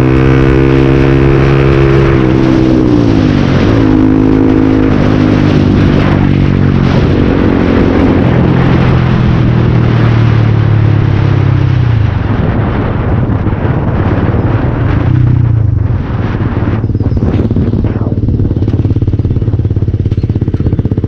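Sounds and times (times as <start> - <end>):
motorcycle engine running loud: 0.0 - 21.0.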